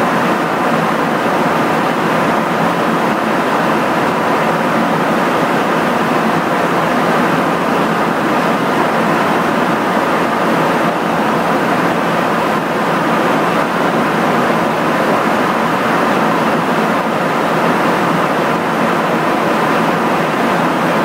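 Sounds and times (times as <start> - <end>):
airflow and jet engine noise: 0.0 - 21.0.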